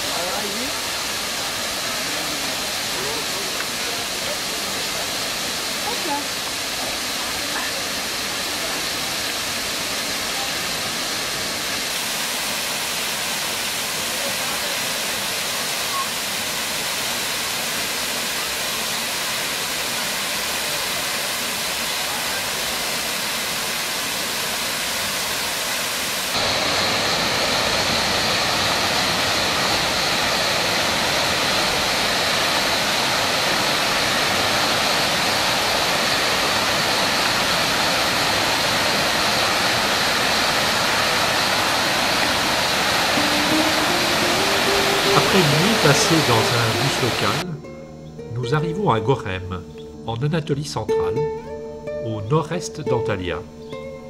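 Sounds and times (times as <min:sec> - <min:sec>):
waterfall rushing: 0:00.0 - 0:47.6.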